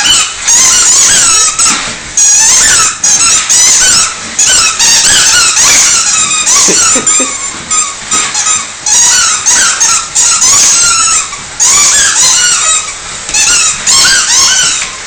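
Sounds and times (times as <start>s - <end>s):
squeaky dog toy squeaking: 0.0s - 15.0s.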